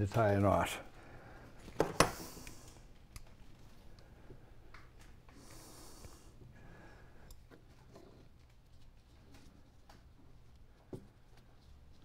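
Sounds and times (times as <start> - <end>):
faint cord rustling: 0.0 - 12.0.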